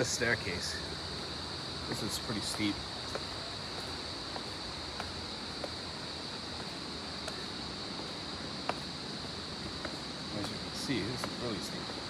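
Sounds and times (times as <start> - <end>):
high insect drone: 0.0 - 12.0
footsteps on steps: 1.0 - 12.0.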